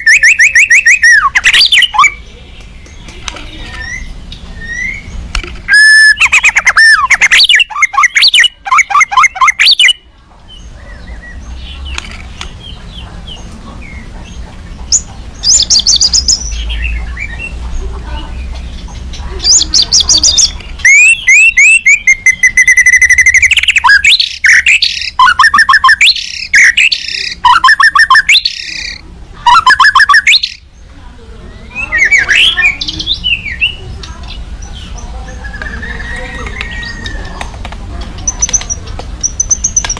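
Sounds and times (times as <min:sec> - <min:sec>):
songbird singing fast trills: 0:00.0 - 0:17.6, 0:18.3 - 0:37.6.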